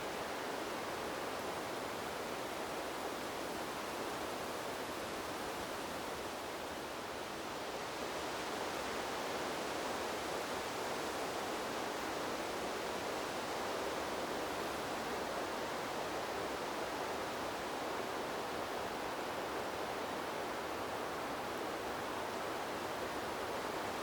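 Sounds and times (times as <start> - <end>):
wind through bamboo: 0.0 - 24.0.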